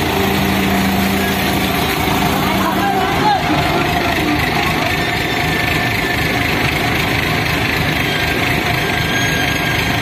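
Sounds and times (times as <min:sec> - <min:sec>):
crane diesel engine running: 0:00.0 - 0:10.0.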